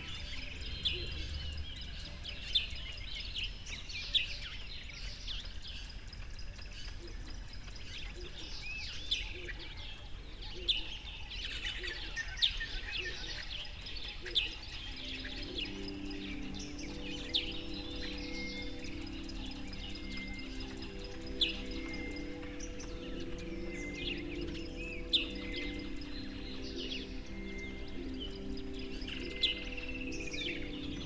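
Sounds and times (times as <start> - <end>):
birds chirping and trilling: 0.0 - 31.0.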